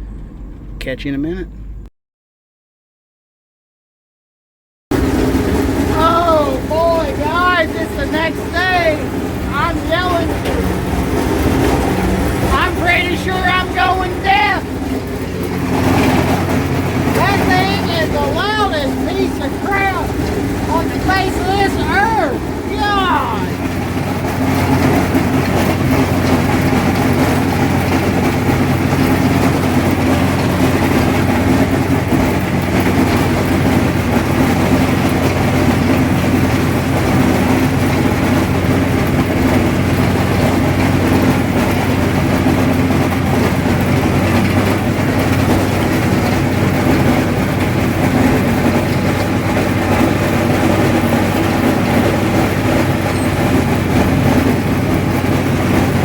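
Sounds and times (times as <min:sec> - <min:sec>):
mower mechanical clatter: 0:00.0 - 0:01.9, 0:04.9 - 0:56.0
tractor diesel engine drone: 0:00.0 - 0:01.9, 0:04.9 - 0:56.0.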